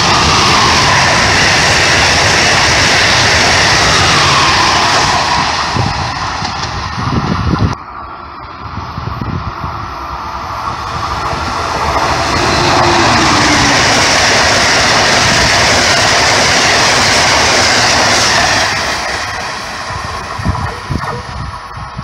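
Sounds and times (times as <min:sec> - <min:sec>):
train wheels on rails: 0:00.0 - 0:22.0.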